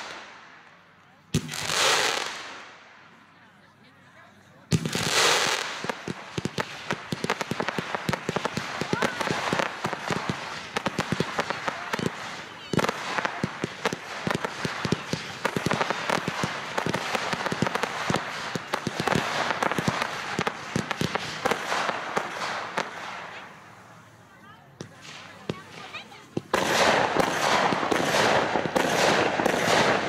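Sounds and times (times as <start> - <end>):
fireworks popping and crackling: 0.0 - 2.9, 4.6 - 30.0
fireworks hiss: 4.7 - 30.0.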